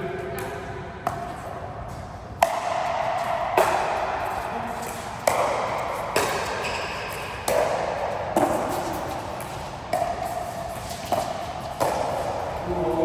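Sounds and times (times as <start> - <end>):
ball hits with ringing echo: 0.4 - 12.6.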